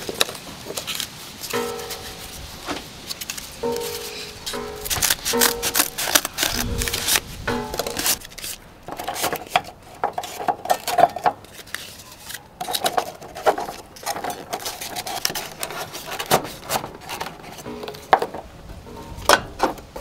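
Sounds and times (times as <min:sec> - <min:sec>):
squeaky scraping: 0:00.8 - 0:18.2.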